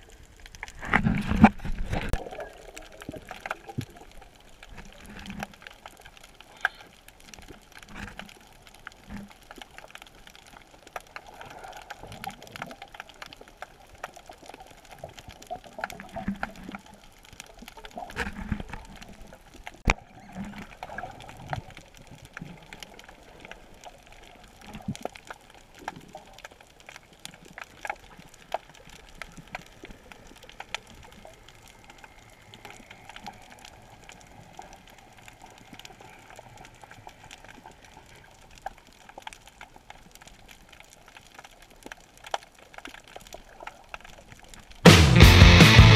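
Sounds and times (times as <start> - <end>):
underwater crackling and clicks: 0.0 - 44.9.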